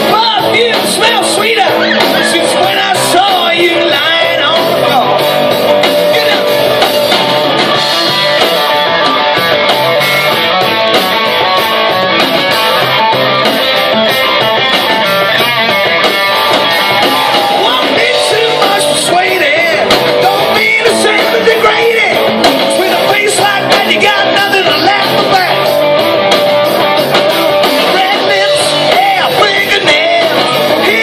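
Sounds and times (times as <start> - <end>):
lead singer: 0.0 - 9.4, 12.4 - 31.0
electric guitar: 0.0 - 31.0.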